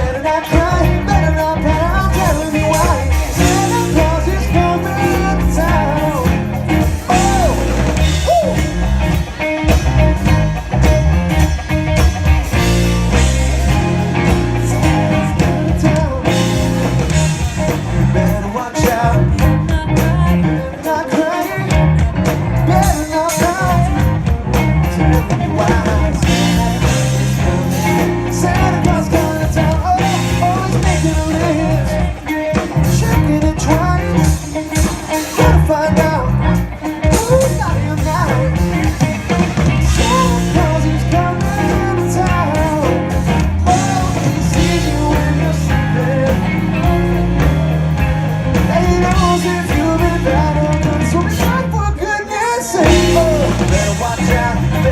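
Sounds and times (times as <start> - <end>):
person singing: 0.0 - 11.6, 12.5 - 54.9
rock band playing: 0.0 - 54.9.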